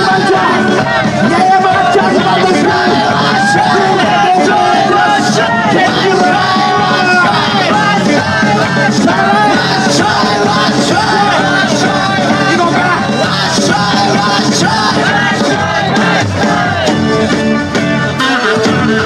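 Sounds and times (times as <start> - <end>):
live band playing upbeat song: 0.0 - 19.0
men singing and shouting: 0.0 - 19.0.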